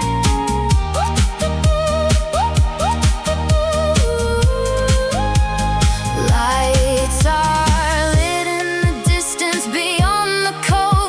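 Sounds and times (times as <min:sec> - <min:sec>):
deep beat thuds: 0:00.0 - 0:09.4, 0:10.0 - 0:11.0.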